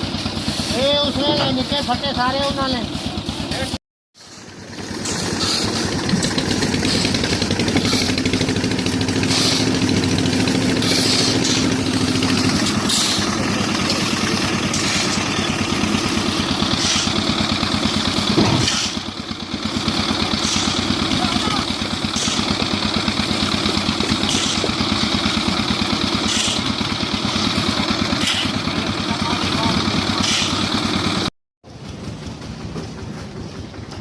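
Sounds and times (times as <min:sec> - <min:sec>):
concrete mixer engine running: 0:00.0 - 0:34.0.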